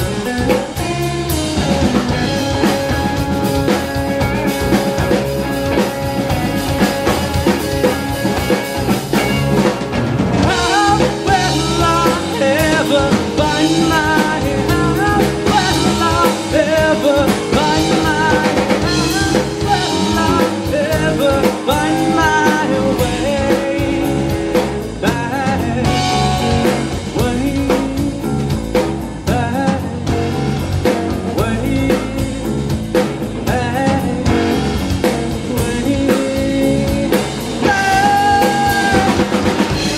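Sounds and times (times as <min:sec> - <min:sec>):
man singing: 0:00.0 - 0:08.6, 0:10.4 - 0:39.9
live rock band playing: 0:00.0 - 0:39.9.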